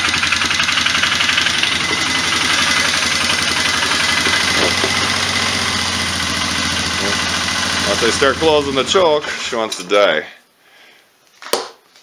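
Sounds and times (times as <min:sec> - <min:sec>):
atv engine idling: 0:00.0 - 0:09.7.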